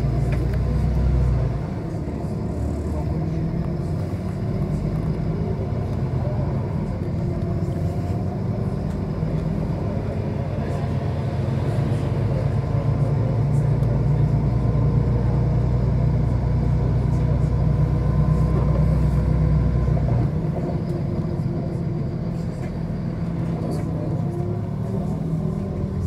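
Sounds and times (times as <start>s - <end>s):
bus engine drone: 0.0s - 26.0s
road noise: 0.0s - 26.0s.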